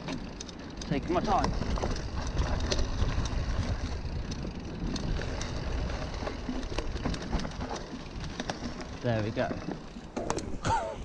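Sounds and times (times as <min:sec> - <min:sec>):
bike clicks and knocks: 0:00.0 - 0:10.9
bike tyres rumbling on dirt: 0:00.0 - 0:11.0.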